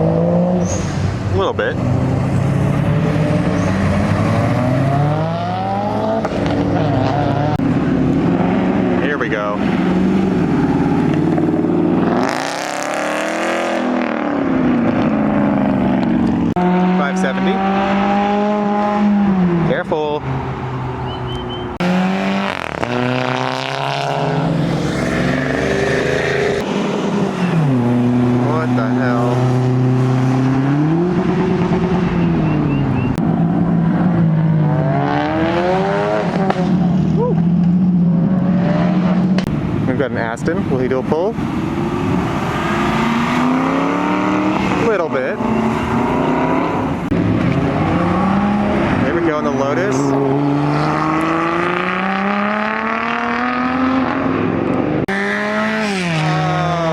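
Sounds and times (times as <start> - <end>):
sports car accelerating past: 0.0 - 9.0, 9.6 - 39.8, 41.4 - 56.9.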